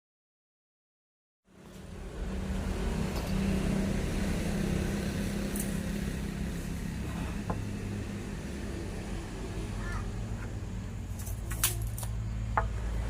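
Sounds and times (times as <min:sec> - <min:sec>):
machine hum: 0:01.5 - 0:13.0.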